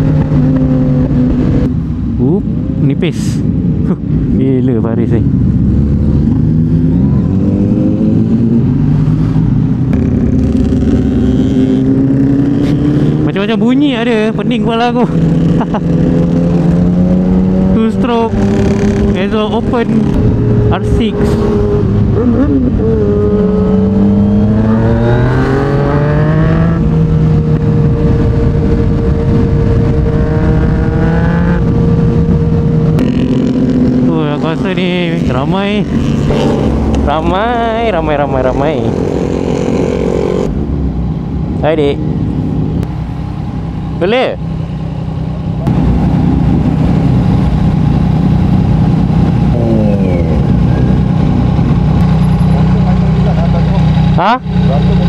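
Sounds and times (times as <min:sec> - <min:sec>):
motorcycle engine revving: 0:00.0 - 0:01.8, 0:05.2 - 0:40.9, 0:41.6 - 0:55.0
other motorcycle engines: 0:00.0 - 0:55.0.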